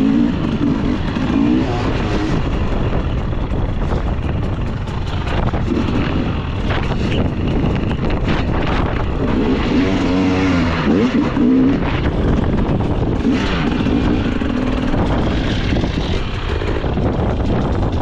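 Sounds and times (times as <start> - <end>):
motorcycle engine revving: 0.0 - 18.0
rough rushing noise: 0.0 - 18.0.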